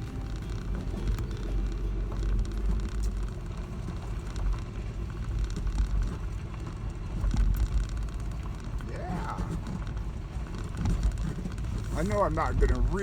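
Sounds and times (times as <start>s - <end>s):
truck rumbling on dirt road: 0.0s - 13.0s.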